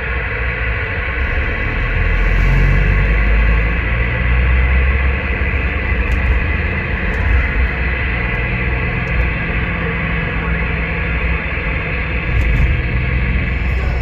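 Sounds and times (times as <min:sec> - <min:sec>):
steady low rumble: 0:00.0 - 0:14.0
radio static hiss: 0:00.1 - 0:14.0.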